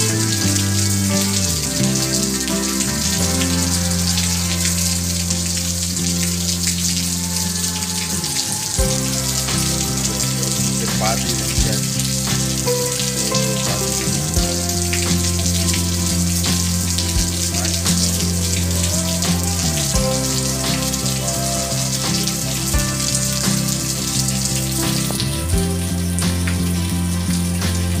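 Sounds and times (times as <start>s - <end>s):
slow background music: 0.0s - 28.0s.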